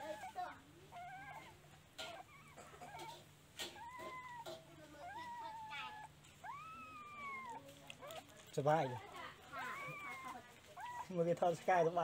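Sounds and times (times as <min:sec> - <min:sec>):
puppies whining and squeaking: 0:00.0 - 0:12.0.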